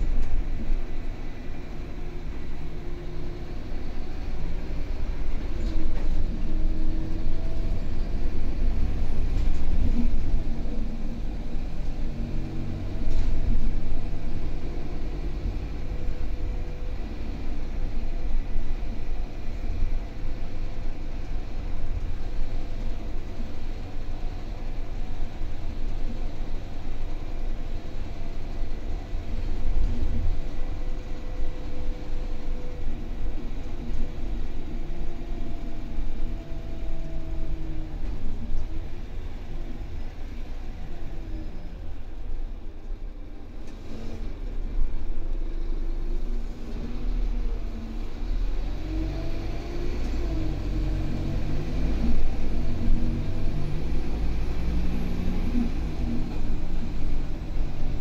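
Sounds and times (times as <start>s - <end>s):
bus diesel engine: 0.0s - 58.0s
road rumble: 0.0s - 58.0s.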